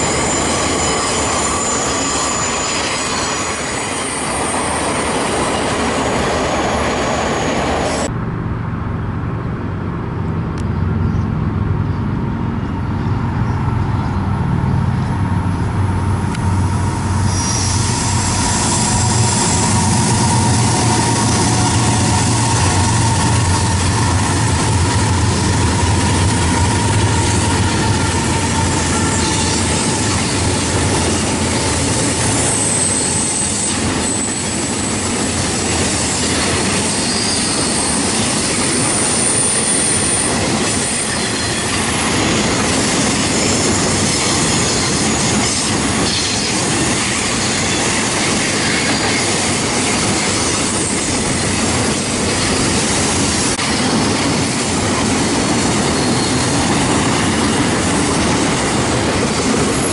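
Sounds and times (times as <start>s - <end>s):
high wheel squeals: 0.0s - 8.1s, 16.7s - 53.9s, 55.4s - 58.2s, 59.3s - 59.9s
steel wheels rushing on rail: 0.0s - 8.1s, 11.4s - 59.9s.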